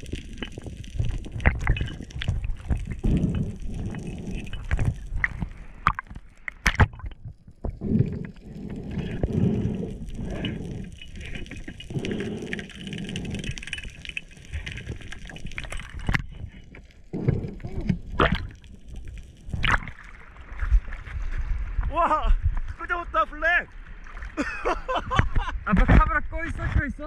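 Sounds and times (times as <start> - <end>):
underwater rush of moving water: 0.0 - 22.7.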